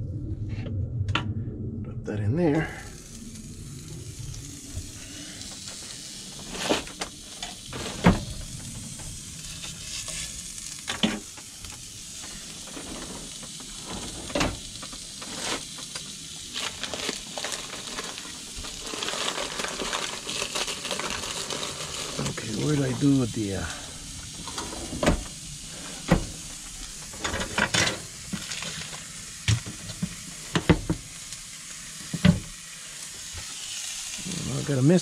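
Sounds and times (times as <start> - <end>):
hot dogs sizzling in skillet: 2.6 - 35.0.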